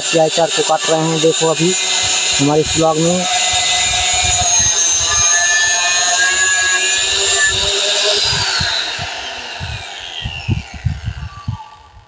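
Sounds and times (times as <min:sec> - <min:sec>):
angle grinder cutting wire: 0:00.0 - 0:12.0.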